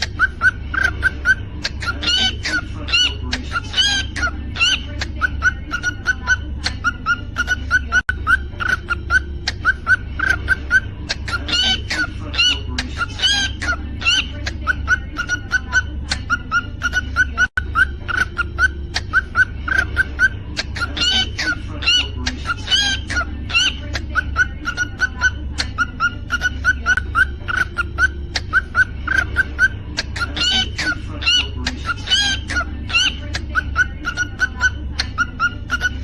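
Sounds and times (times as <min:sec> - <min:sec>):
cockatiel whistling and chirping: 0:00.0 - 0:36.0
low steady hum: 0:00.0 - 0:36.0.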